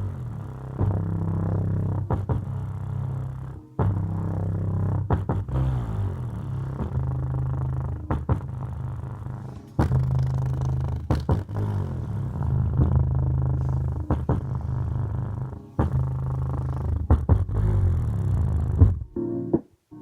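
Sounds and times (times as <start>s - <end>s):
bass-heavy music from subwoofers: 0.0s - 19.6s.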